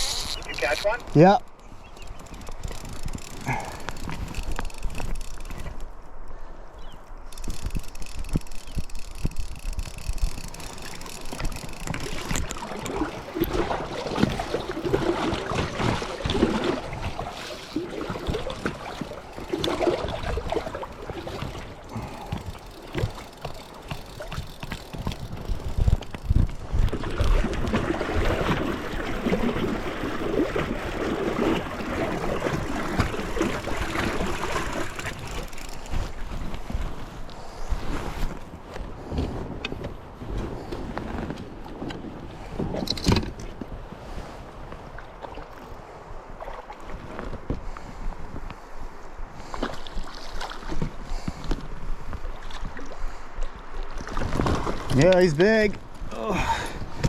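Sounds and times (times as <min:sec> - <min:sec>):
river water splashing against boat: 0:00.0 - 0:06.2, 0:07.0 - 0:57.0
wind rumbling on microphone: 0:00.0 - 0:57.0.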